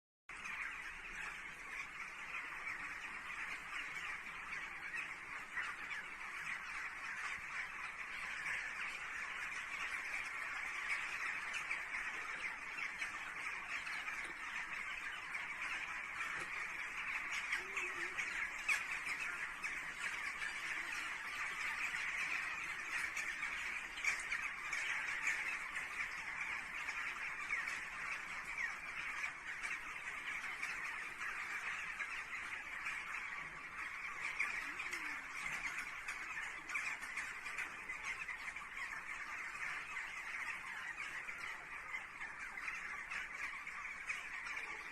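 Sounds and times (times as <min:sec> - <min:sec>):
flock of birds calling: 0:00.3 - 0:44.9.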